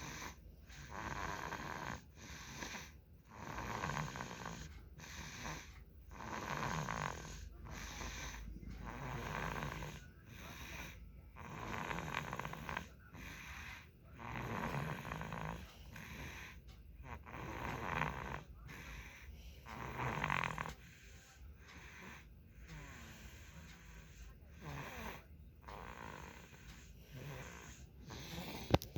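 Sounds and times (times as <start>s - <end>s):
child snoring: 0.0s - 28.9s.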